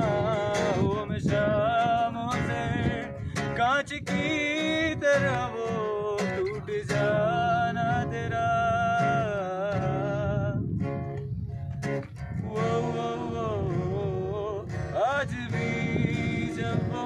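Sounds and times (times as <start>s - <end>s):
man singing: 0.0s - 10.7s, 12.4s - 17.0s
strummed acoustic guitar: 0.0s - 17.0s.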